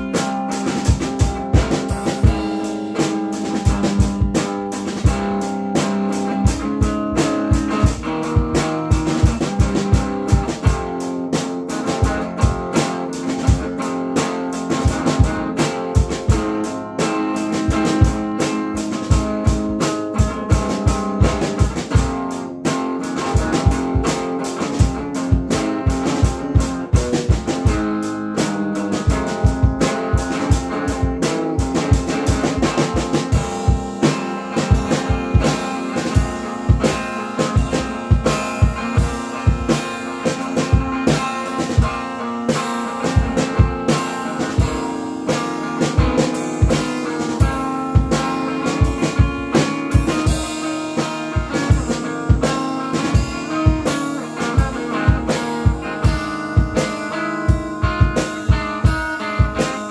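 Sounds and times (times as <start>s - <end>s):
drum kit playing: 0.0s - 59.9s
electric guitar chords and riffs: 0.0s - 59.9s.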